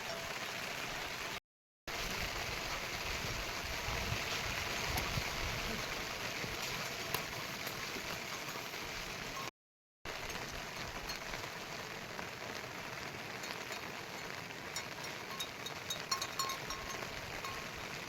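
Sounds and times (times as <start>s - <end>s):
heavy rain falling: 0.0s - 9.5s, 10.1s - 18.0s.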